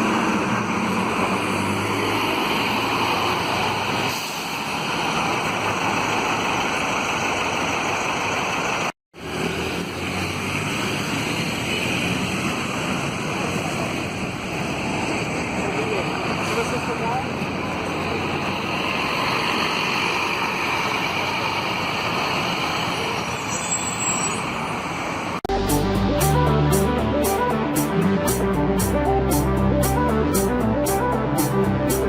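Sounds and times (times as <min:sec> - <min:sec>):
bus passing: 0:00.0 - 0:32.0
road traffic: 0:00.0 - 0:32.0.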